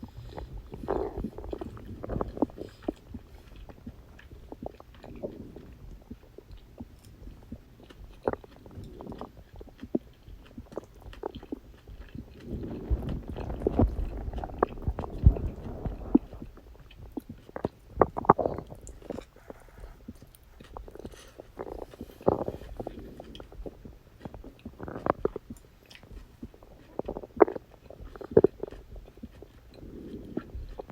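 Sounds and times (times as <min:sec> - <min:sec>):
stomach gurgling and rumbling: 0:00.0 - 0:30.9.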